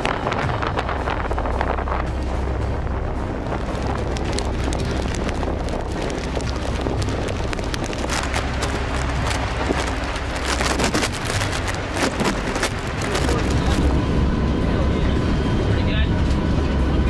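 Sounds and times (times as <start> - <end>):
rain: 0.0 - 14.2
crackling bursts: 0.0 - 14.3
heavy low rumble: 0.0 - 17.0
storm wind buffeting microphone: 0.0 - 17.0.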